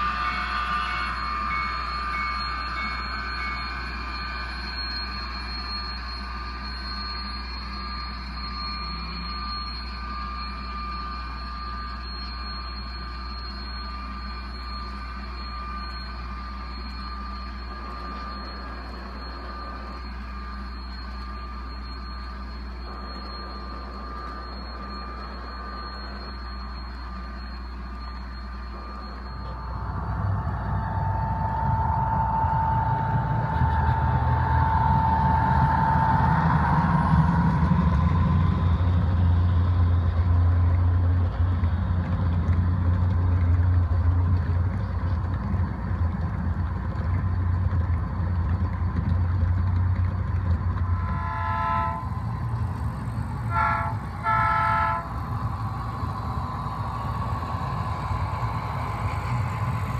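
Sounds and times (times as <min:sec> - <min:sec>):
model train motors humming and whining: 0:00.0 - 0:59.9.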